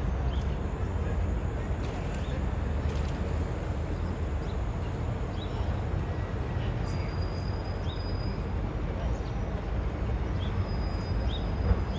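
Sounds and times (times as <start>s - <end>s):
city traffic rumble: 0.0s - 11.9s.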